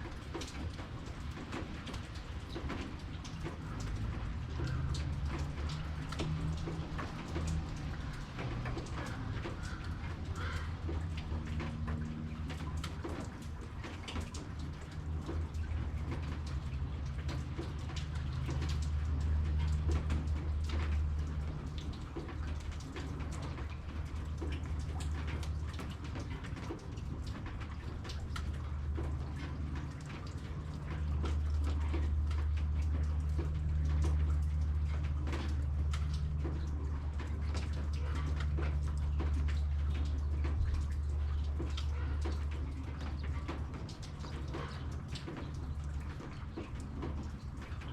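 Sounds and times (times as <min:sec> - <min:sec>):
rain dripping: 0:00.0 - 0:47.9.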